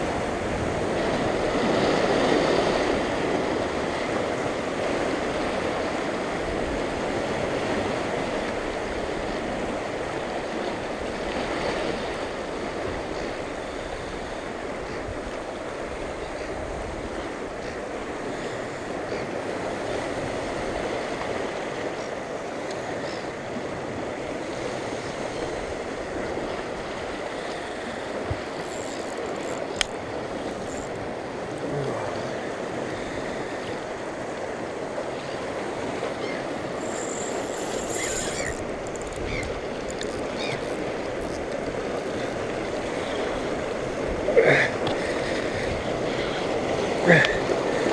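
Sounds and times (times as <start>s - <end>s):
surf washing around rocks: 0.0s - 47.9s.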